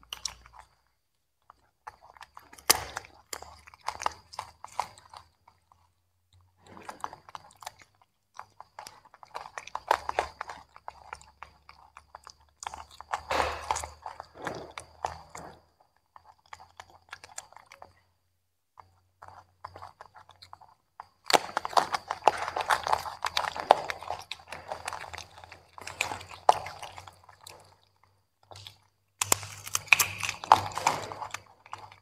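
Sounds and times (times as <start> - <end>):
monkeys chewing vegetables: 0.0 - 32.0.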